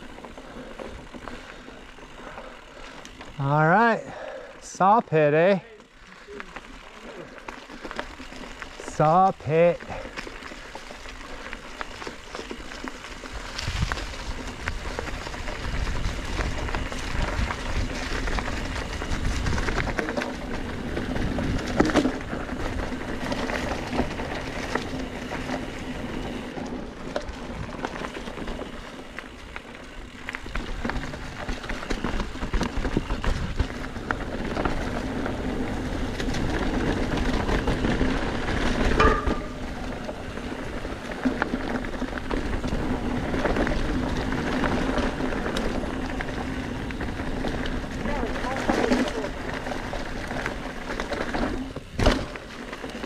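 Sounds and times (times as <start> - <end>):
bike frame rattling: 0.0 - 4.5, 5.2 - 53.0
bike tyres skidding on dirt: 0.0 - 53.0.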